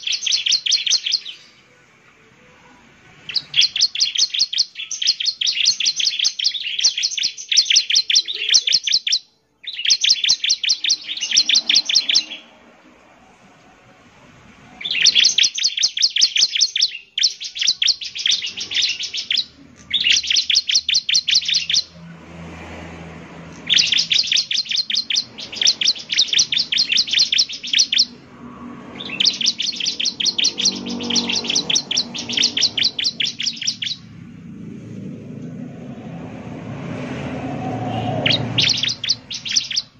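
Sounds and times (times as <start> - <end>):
bird rapid high chirps: 0.0 - 1.6, 3.1 - 12.7, 14.6 - 22.2, 23.3 - 39.9.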